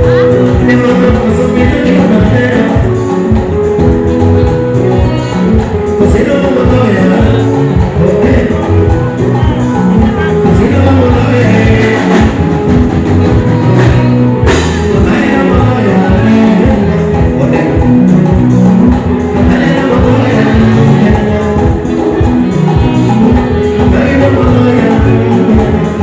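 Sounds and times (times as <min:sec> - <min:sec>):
live band music: 0:00.0 - 0:26.0
person singing: 0:00.0 - 0:26.0.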